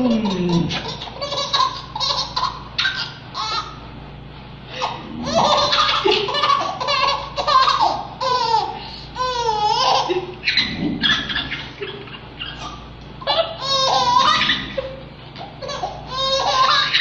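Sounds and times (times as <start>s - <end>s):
baby laughing: 0.0s - 3.8s, 4.7s - 17.0s.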